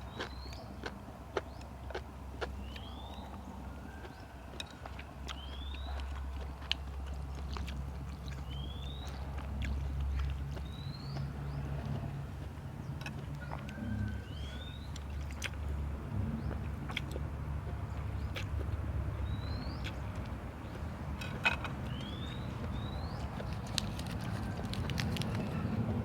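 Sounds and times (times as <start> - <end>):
chewing with crunches: 0.0 - 26.0.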